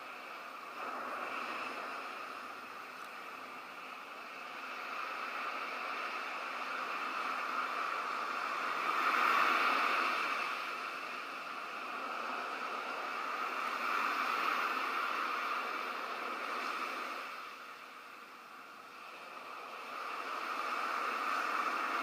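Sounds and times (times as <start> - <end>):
ocean surf washing onto shore: 0.0 - 22.0.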